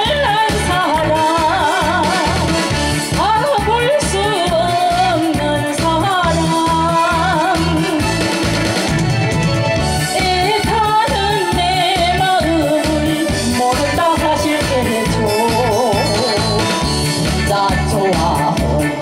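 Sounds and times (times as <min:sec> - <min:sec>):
woman singing into microphone: 0:00.0 - 0:08.4, 0:10.0 - 0:19.0
backing track with bass beat: 0:00.0 - 0:19.0.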